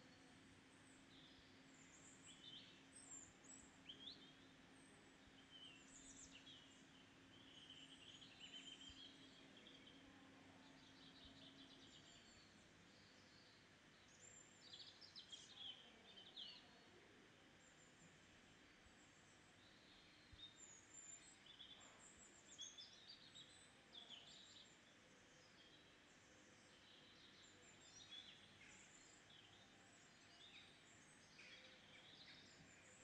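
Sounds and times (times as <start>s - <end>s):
bird chirps and trills: 0.0s - 18.7s, 19.4s - 33.0s
low steady hum: 0.0s - 33.0s.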